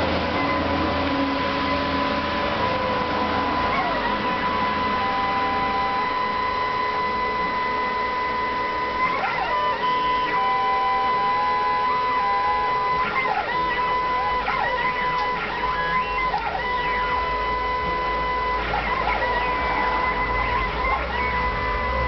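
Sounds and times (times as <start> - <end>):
stepper motors whining: 0.0 - 22.0.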